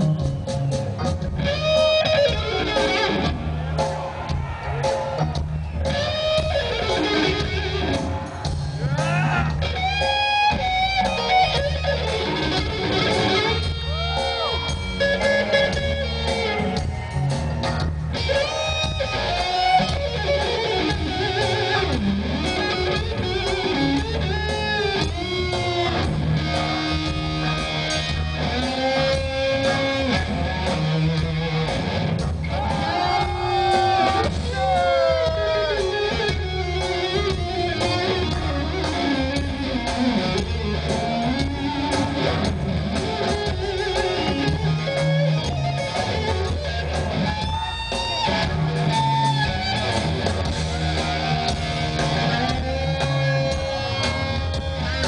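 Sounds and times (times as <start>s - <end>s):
electric guitar solo: 0.0s - 55.0s.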